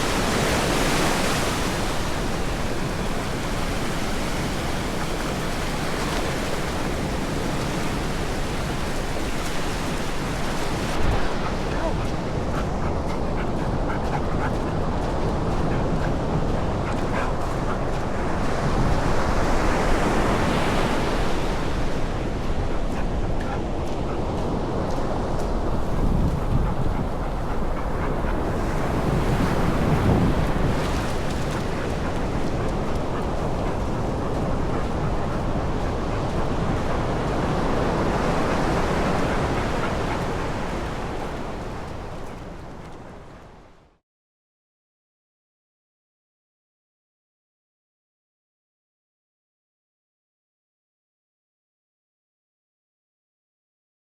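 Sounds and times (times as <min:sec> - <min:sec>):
ocean surf breaking: 0:00.0 - 0:43.6.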